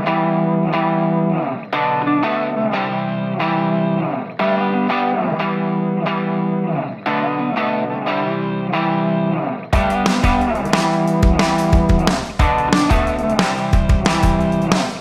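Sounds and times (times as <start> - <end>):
electric guitar playing chords: 0.0 - 15.0.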